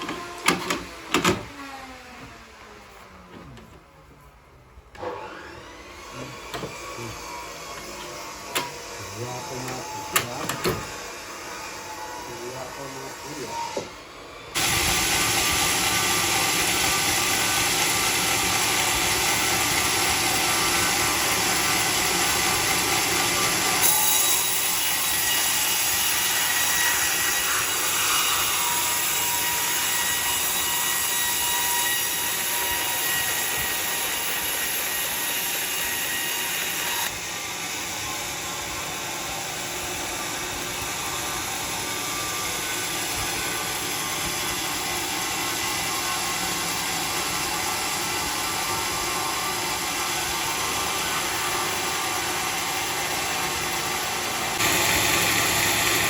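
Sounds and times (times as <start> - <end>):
saw cutting timber with high whine: 5.0 - 56.0.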